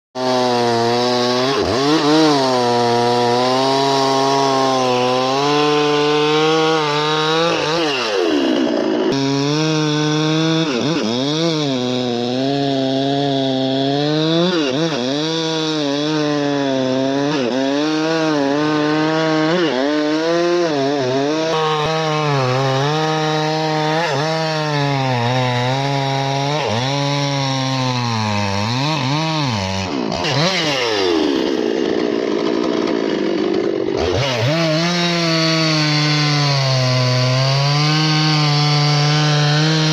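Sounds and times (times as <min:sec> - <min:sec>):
chainsaw cutting wood: 0:00.2 - 0:39.9.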